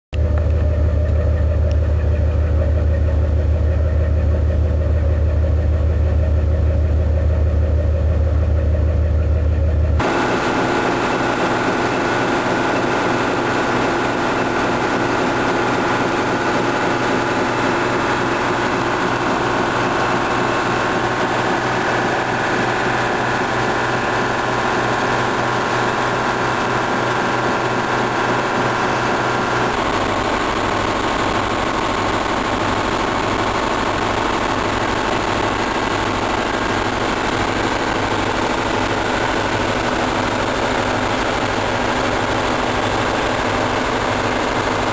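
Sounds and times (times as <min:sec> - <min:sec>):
diesel engine running: 0:00.1 - 0:44.9.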